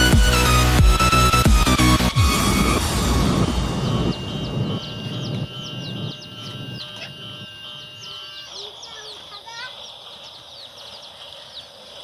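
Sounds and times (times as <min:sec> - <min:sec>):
steady high tone: 0:00.0 - 0:11.8
high downward chirps: 0:00.0 - 0:12.0.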